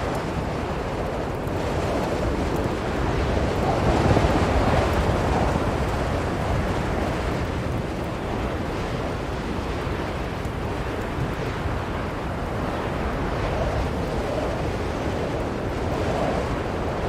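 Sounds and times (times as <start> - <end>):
blizzard wind blowing hard: 0.0 - 17.0.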